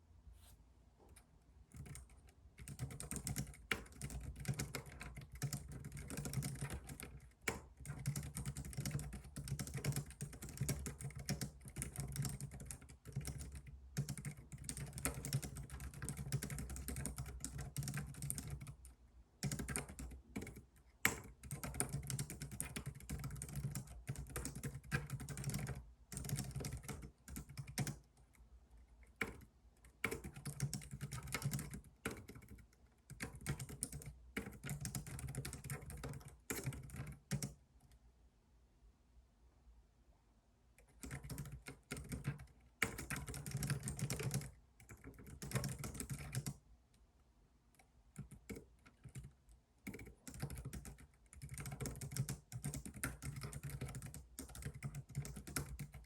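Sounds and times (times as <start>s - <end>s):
computer keyboard typing: 1.7s - 28.4s, 29.0s - 37.6s, 40.8s - 46.6s, 47.8s - 56.0s.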